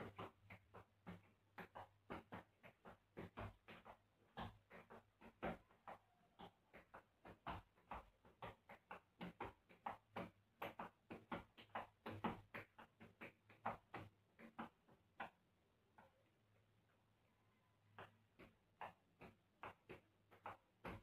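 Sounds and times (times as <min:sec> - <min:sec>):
tap shoes on tiled floor: 0:00.0 - 0:16.3, 0:17.8 - 0:21.0.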